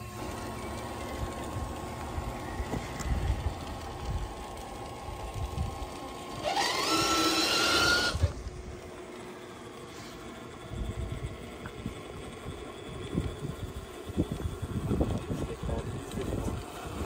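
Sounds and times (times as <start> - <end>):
toy car electric motor whining: 0.0 - 17.0.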